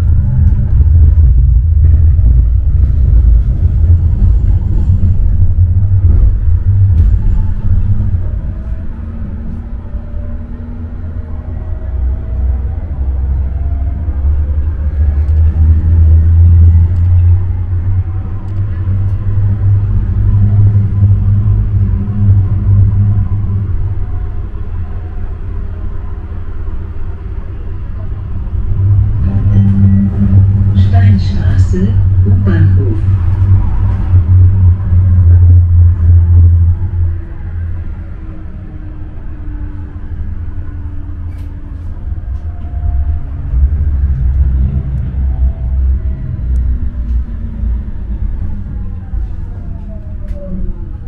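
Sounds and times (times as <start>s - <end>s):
tram rumbling with hum: 0.0s - 51.0s.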